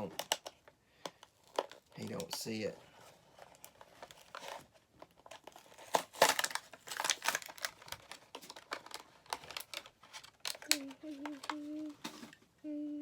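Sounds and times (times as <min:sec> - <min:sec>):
toy packaging crinkling and tearing: 0:00.0 - 0:12.3.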